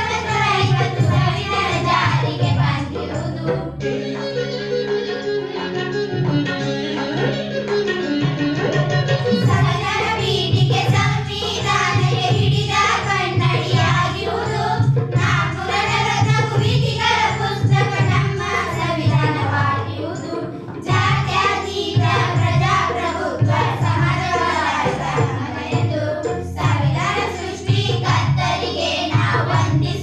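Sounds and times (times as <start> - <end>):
children singing: 0.0 - 5.9, 9.2 - 30.0
instrumental accompaniment: 0.0 - 30.0.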